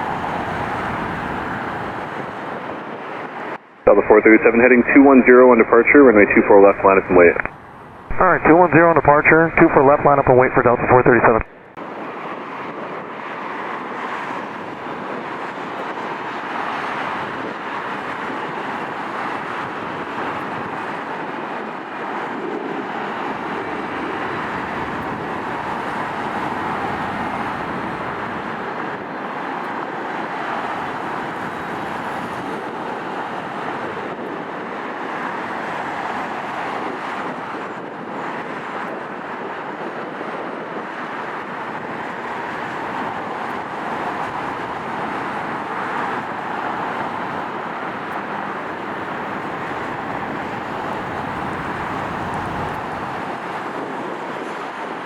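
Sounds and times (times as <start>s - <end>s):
jet engines running at low power: 0.0s - 55.0s.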